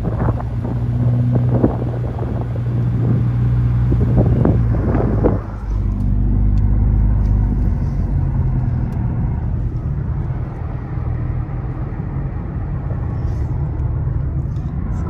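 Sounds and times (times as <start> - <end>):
car engine running: 0.0 - 15.0
tyre and road noise: 0.0 - 15.0.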